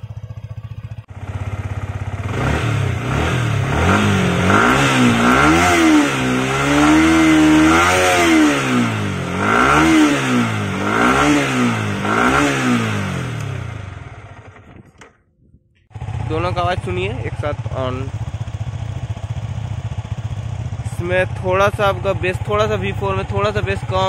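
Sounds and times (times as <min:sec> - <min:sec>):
motorcycle engine revving: 0:00.0 - 0:15.2, 0:15.9 - 0:24.0.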